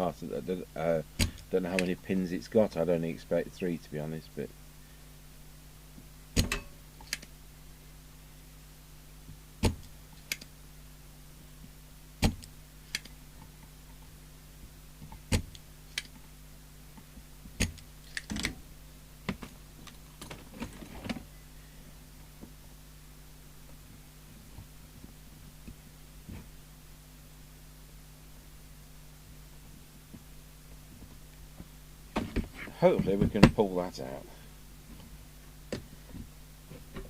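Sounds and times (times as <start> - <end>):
low mains hum: 0.0 - 37.0.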